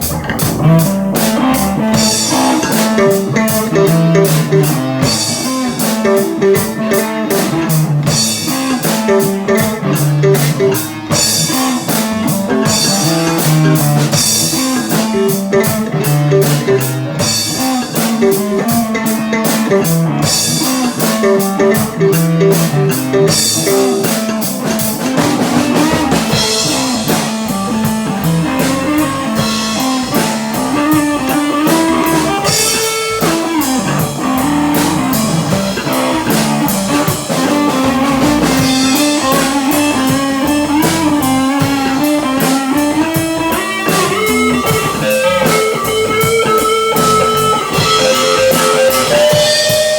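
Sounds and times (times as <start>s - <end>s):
drum kit with cymbals: 0.0s - 49.9s
rock guitar: 0.0s - 49.9s.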